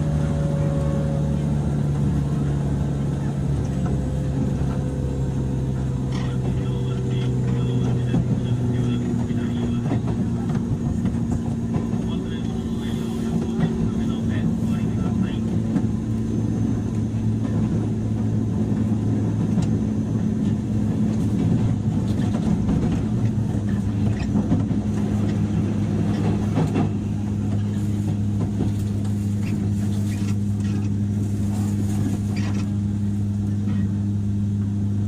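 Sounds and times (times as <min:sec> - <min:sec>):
train motor low hum: 0:00.0 - 0:35.0
train track noise: 0:00.0 - 0:35.0.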